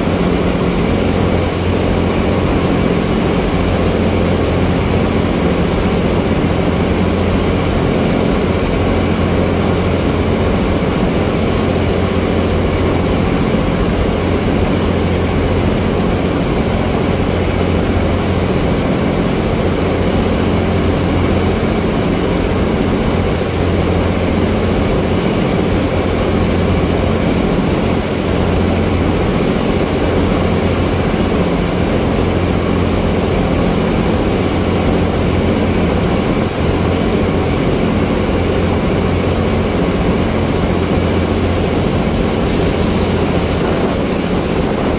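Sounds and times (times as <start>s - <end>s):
churning wake rushing: 0.0s - 44.9s
ferry engine droning: 0.0s - 44.9s.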